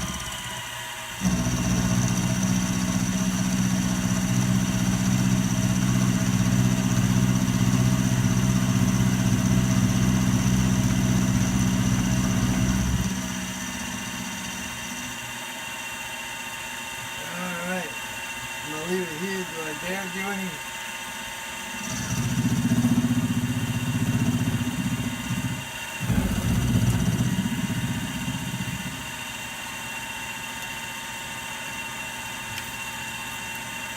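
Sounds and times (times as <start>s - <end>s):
loud motor hum: 0.0s - 33.9s
milling machine running: 0.0s - 33.9s.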